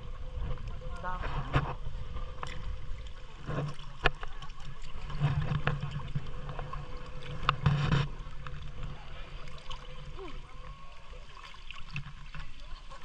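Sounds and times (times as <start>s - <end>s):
water splashing around boat: 0.0s - 13.0s.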